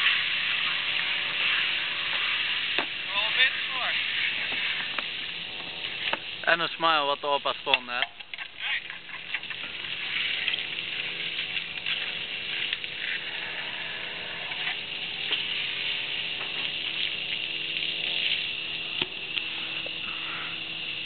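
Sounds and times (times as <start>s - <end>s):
hose spraying water on dishes: 0.0s - 21.0s.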